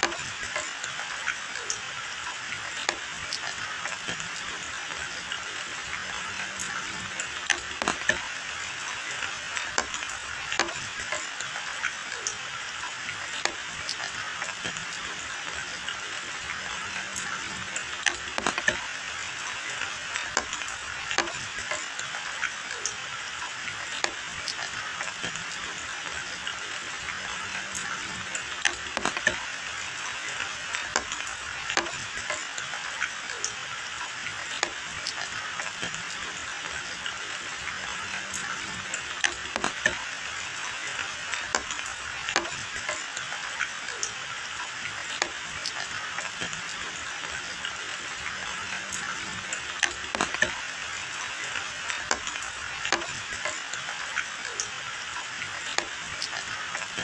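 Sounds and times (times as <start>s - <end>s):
rain drops tapping: 0.0s - 57.0s
rain hissing: 0.0s - 57.0s.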